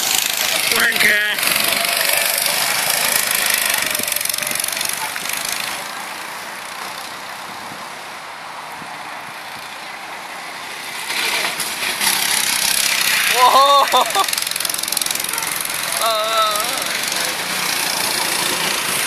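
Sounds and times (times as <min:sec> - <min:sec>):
go-kart engines buzzing: 0:00.0 - 0:19.0.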